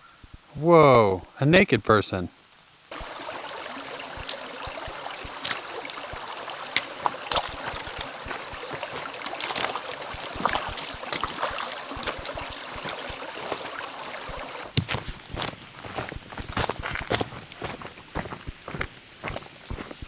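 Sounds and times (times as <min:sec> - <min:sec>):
creek water running: 0:02.9 - 0:20.0
footsteps on rocks: 0:02.9 - 0:20.0.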